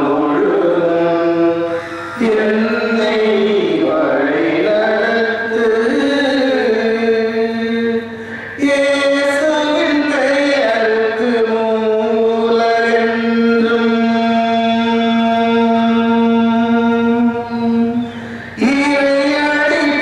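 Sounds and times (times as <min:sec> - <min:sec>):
liturgical chanting: 0:00.0 - 0:20.0.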